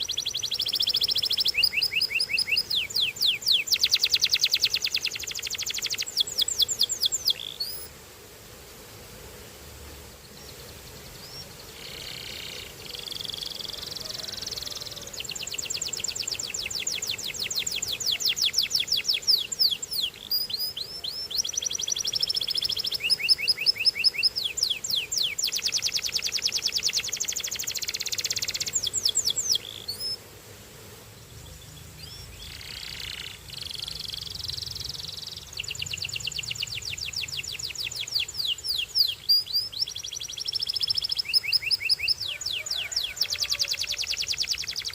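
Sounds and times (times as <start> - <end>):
canary singing trills: 0.0 - 7.9, 10.4 - 30.2, 31.3 - 44.9.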